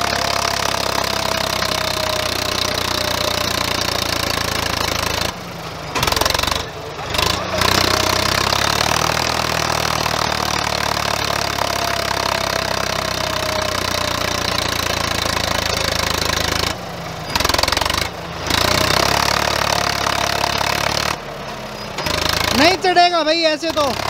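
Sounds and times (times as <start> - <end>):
tractor diesel engine under load: 0.0 - 24.0
tyres spinning in sand: 0.0 - 24.0.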